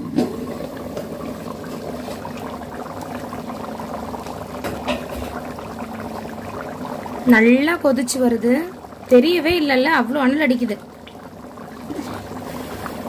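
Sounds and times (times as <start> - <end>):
curry bubbling at a boil: 0.0 - 13.0.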